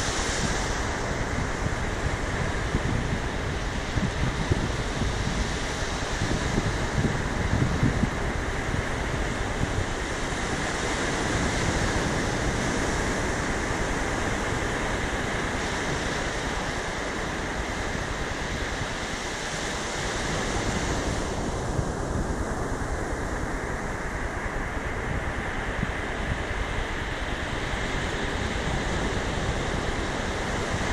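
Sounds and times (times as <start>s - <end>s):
ocean surf washing up beach: 0.0s - 30.9s
wind buffeting microphone: 0.0s - 30.9s.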